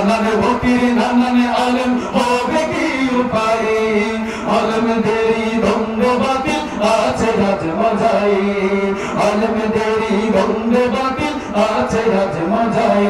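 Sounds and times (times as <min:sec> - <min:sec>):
two men singing into microphones: 0:00.0 - 0:13.0.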